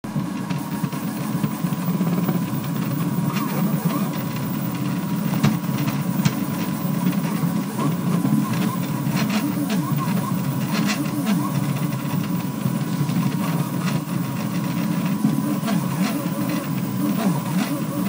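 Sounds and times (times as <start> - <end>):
stepper motors buzzing and whining: 0.1 - 18.0.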